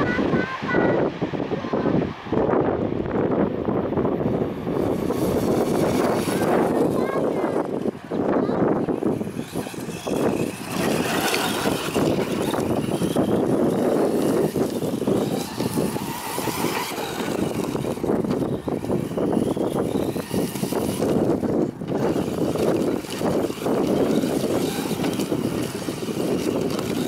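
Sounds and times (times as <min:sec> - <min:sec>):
steady rushing noise: 0:00.0 - 0:27.0
toy truck motor whining: 0:04.4 - 0:27.0.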